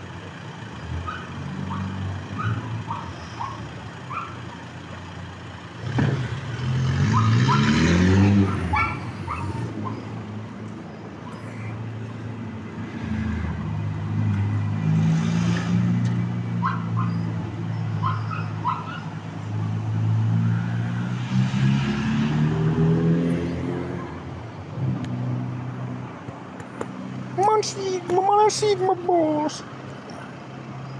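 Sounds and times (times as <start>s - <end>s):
vehicle engine accelerating: 4.9s - 30.9s.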